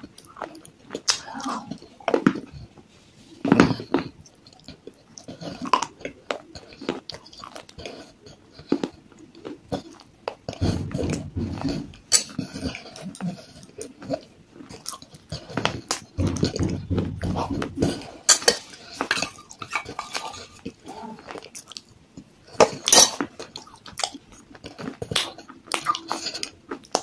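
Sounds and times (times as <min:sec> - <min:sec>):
chewing and swallowing: 0:00.0 - 0:27.0.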